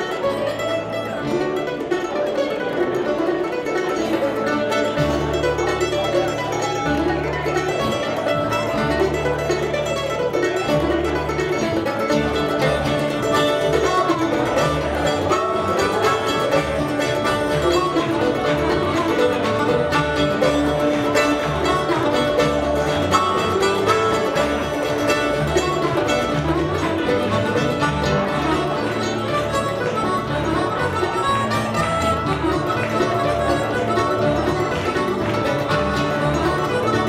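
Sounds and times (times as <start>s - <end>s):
acoustic guitar: 0.0s - 37.0s
harmonica bending notes: 0.0s - 37.0s
mandolin: 0.0s - 37.0s
upright bass: 0.0s - 37.0s.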